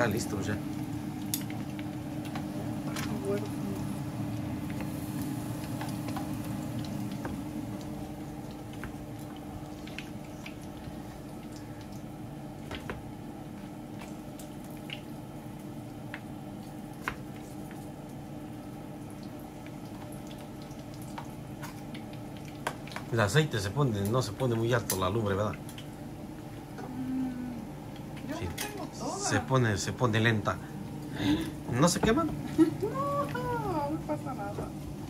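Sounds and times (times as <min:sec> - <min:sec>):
food frying in oil: 0:00.0 - 0:35.0
steady low hum: 0:00.0 - 0:35.0.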